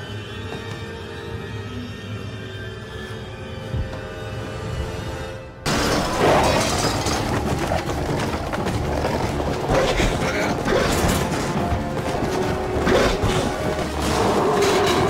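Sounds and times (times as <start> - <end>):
hard-hitting action music: 0.0 - 15.0
suspenseful horror score: 0.0 - 15.0.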